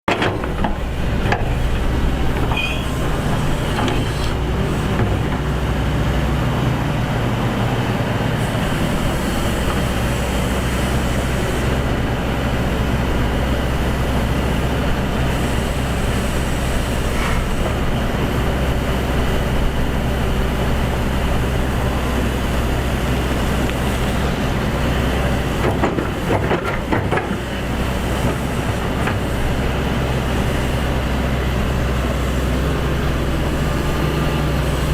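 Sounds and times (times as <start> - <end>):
diesel engine droning: 0.1 - 34.9.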